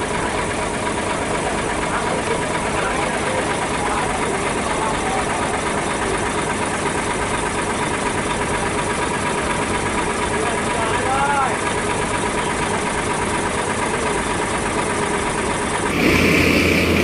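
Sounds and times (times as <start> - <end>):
truck engines idling: 0.0 - 17.0.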